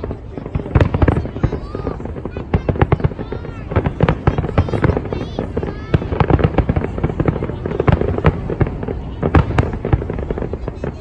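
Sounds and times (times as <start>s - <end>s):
continuous rumble: 0.0s - 11.0s
fireworks bangs and crackles: 0.0s - 11.0s.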